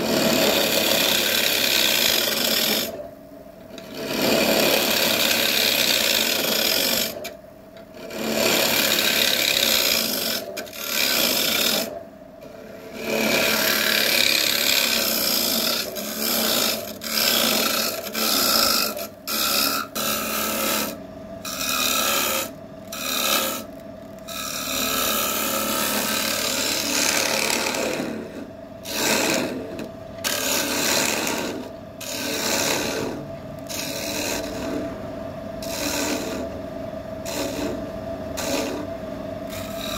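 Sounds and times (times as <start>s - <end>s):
lathe motor hum: 0.0s - 3.0s, 3.7s - 7.3s, 7.9s - 39.9s
lathe tool scraping wood: 0.0s - 3.0s, 3.7s - 35.0s, 35.6s - 36.6s, 37.2s - 39.9s.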